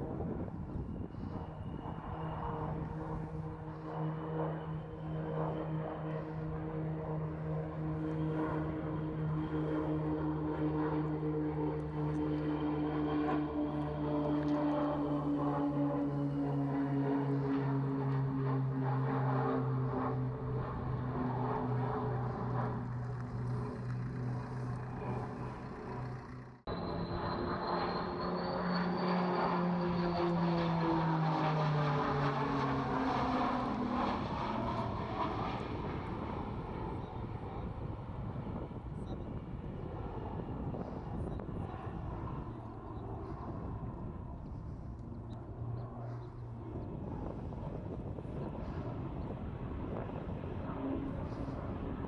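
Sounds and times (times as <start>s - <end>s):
turboprop engines droning: 0.0s - 52.0s.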